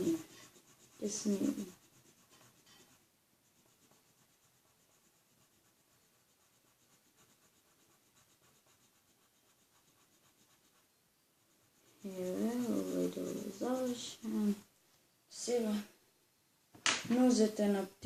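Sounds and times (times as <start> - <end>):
felt-tip marker scratching on paper: 0.0 - 14.6.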